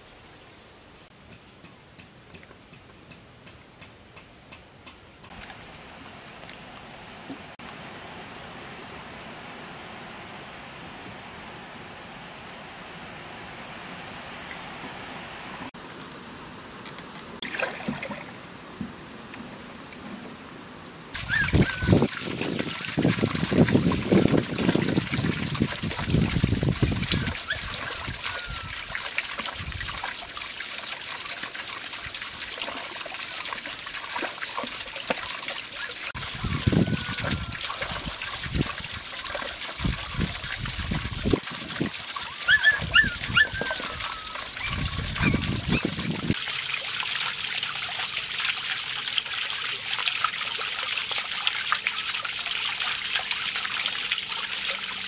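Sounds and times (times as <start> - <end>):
rush of flowing water: 5.2 - 55.0.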